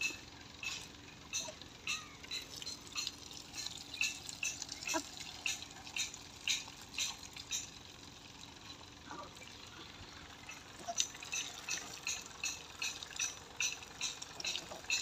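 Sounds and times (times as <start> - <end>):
water splashing from hose: 0.6 - 15.0.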